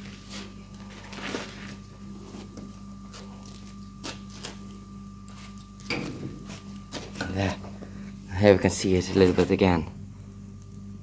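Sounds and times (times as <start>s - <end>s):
forge fire crackling: 0.0s - 11.0s
steady low hum: 0.0s - 11.0s.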